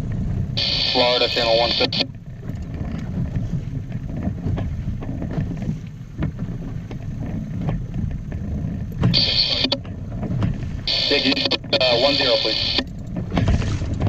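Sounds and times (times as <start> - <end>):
water rushing against boat hull: 0.0 - 14.0.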